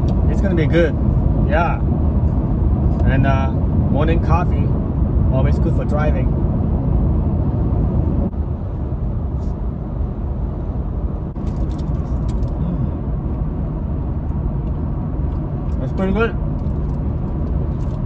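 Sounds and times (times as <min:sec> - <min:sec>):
road and engine noise in cab: 0:00.0 - 0:18.0.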